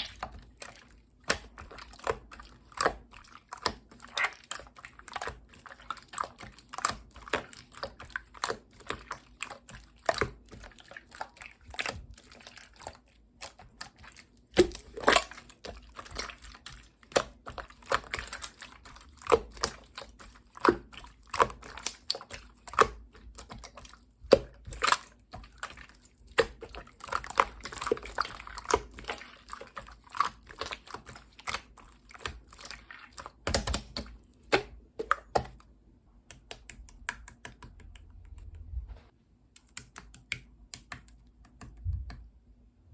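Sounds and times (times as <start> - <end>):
slime squished by hand: 0.0 - 35.6.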